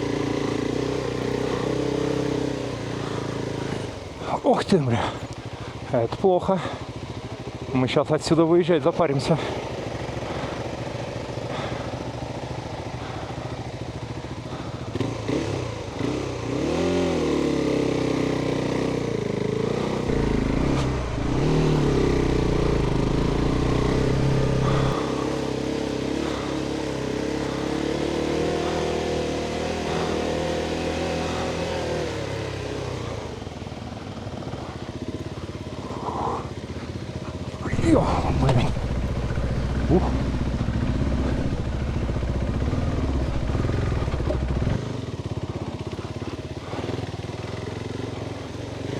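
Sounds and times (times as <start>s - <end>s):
motorcycle engine revving: 0.0s - 4.4s, 5.0s - 48.9s.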